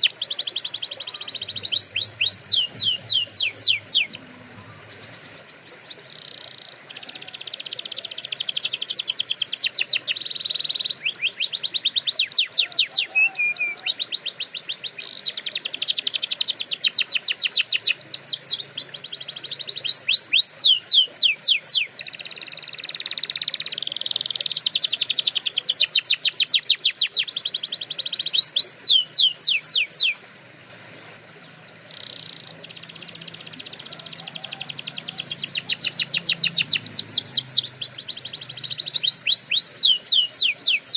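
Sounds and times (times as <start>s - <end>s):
canary singing trills: 0.0s - 30.4s, 31.4s - 40.9s.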